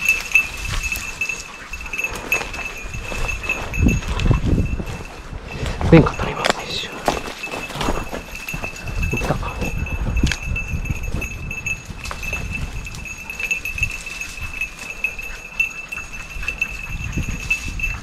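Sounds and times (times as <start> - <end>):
footsteps through dry undergrowth: 0.0 - 18.0.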